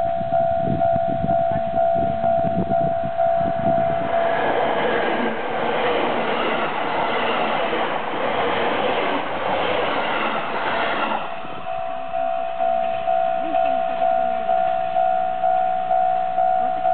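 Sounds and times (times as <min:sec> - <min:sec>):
electric train passing: 0:00.0 - 0:16.9
level-crossing alarm ringing: 0:00.0 - 0:16.9.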